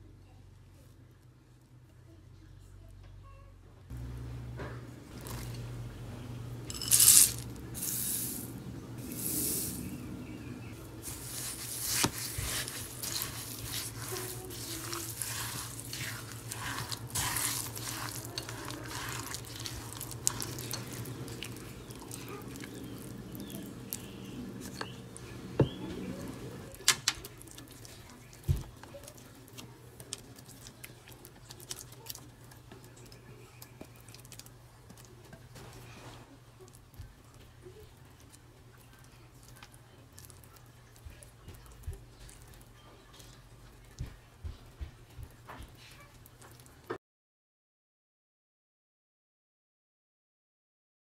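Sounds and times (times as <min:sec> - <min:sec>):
spatula stirring wet batter: 0:05.1 - 0:46.9.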